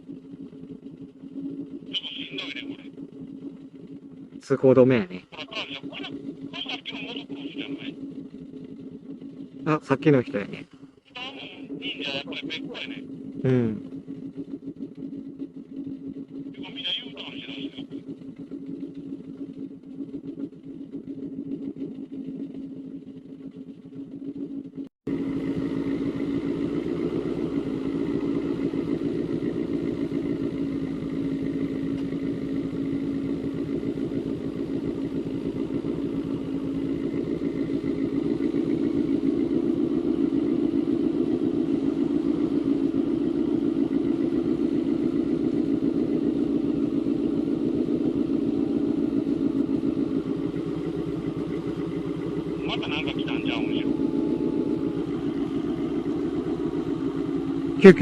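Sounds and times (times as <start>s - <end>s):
motorcycle engine at low revs: 0.0s - 58.0s.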